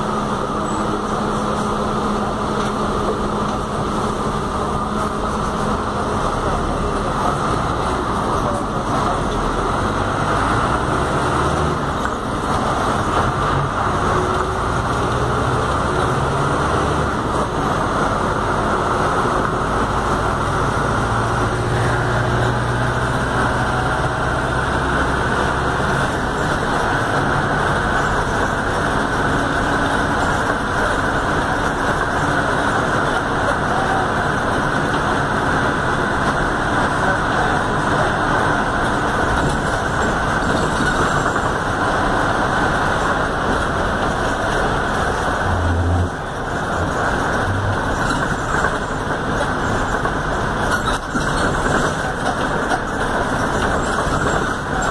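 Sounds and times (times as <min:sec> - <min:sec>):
bus engine and road noise: 0:00.0 - 0:54.9.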